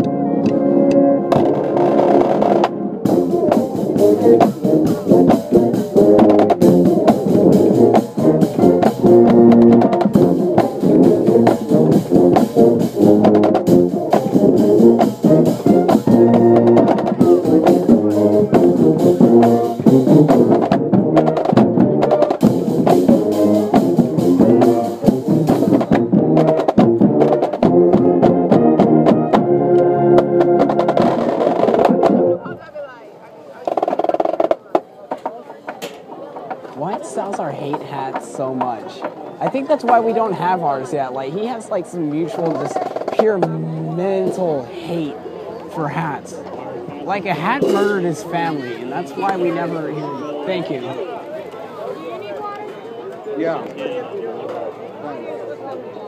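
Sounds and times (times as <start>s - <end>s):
marching band playing: 0.0s - 52.8s.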